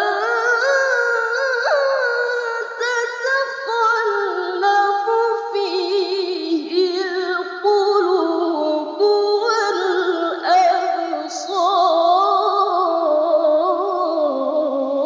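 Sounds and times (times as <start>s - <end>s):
person reciting melismatically: 0.0s - 15.0s.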